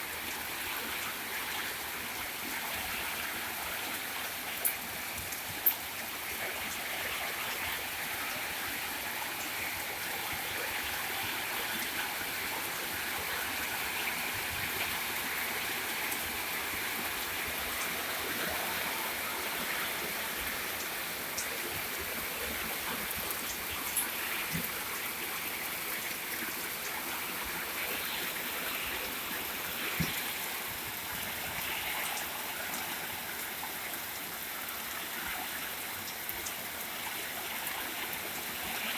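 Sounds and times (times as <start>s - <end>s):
faint ticks of raindrops: 0.1s - 8.3s, 9.3s - 38.9s.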